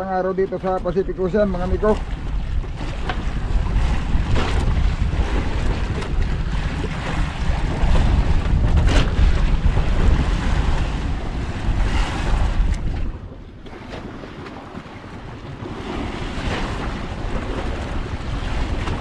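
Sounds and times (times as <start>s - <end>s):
sea waves splashing: 0.0s - 19.0s
wind rumbling on microphone: 0.0s - 19.0s.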